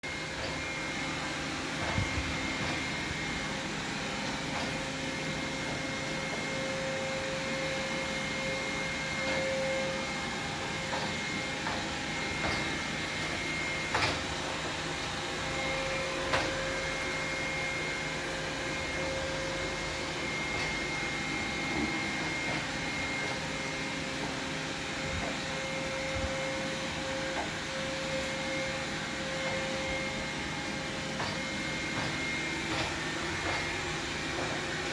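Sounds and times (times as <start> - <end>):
robot vacuum whirring: 0.1 - 34.9.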